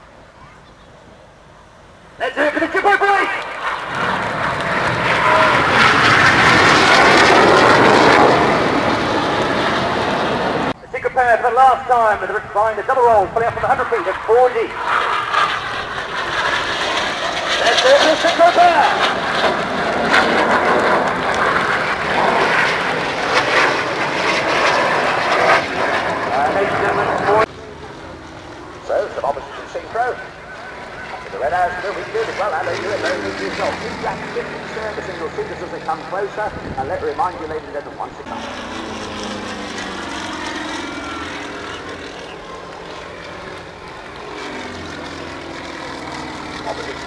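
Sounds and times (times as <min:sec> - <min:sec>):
jets flying overhead: 0:01.2 - 0:47.0.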